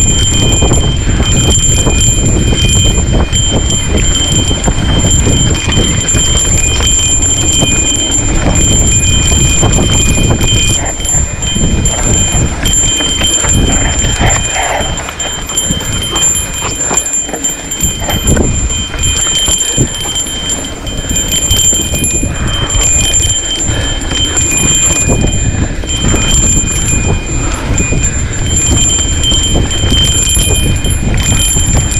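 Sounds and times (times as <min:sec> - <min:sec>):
wind rumble on microphone: 0:00.0 - 0:31.9
tyres on loose dirt: 0:00.1 - 0:31.9.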